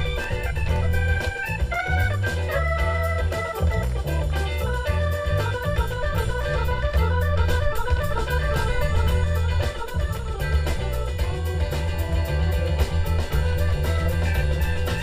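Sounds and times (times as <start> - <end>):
live funk band: 0.0 - 15.0
organ solo: 0.0 - 15.0.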